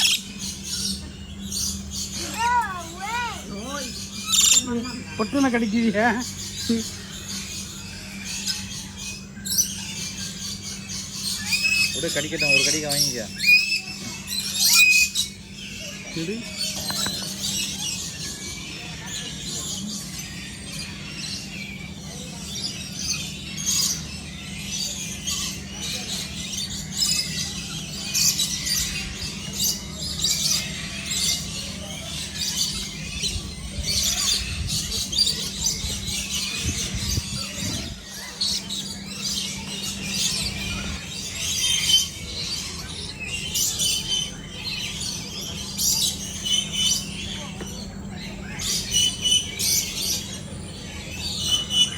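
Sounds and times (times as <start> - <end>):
birds chirping and squawking: 0.0 - 51.9.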